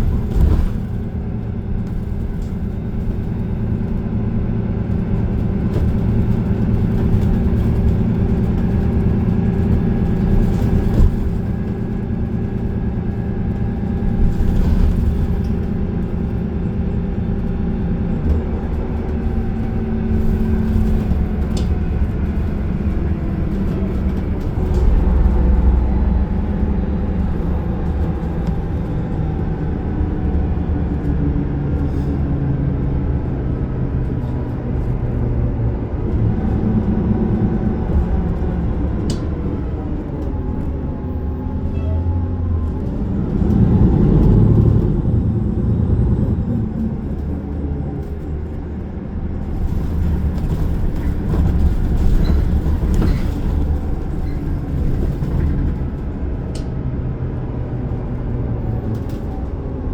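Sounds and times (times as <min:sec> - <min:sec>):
bus engine drone: 0:00.0 - 0:59.9
road rumble: 0:00.0 - 0:59.9.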